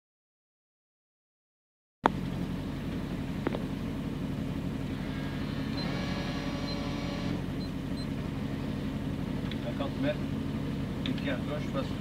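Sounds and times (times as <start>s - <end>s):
rally car engine idling: 2.1s - 12.0s.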